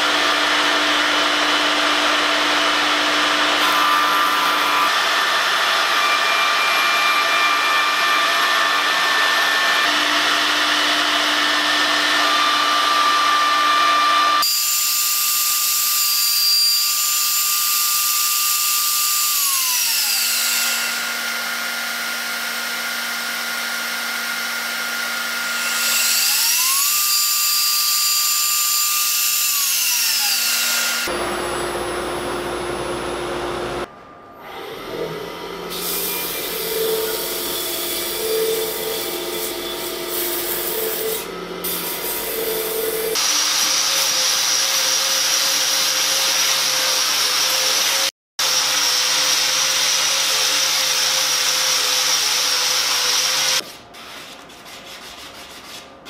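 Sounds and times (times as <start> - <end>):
wood router cutting: 0.0 - 33.9, 34.5 - 53.6.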